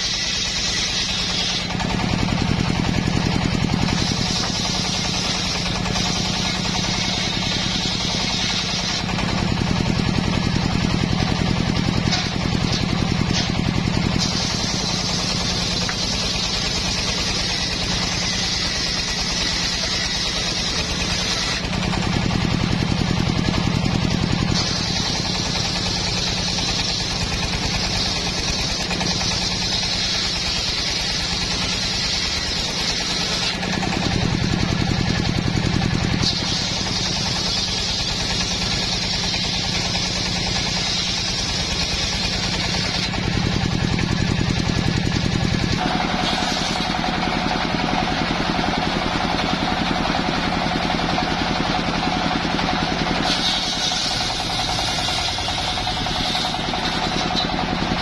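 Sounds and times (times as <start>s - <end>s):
saw blade ripping wood: 0.0s - 58.0s
saw machine humming: 0.0s - 58.0s.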